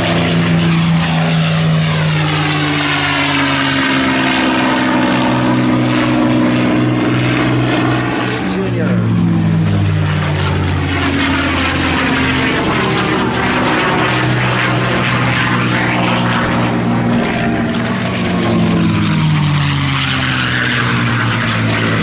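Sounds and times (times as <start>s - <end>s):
propeller plane engine roaring: 0.0s - 22.0s.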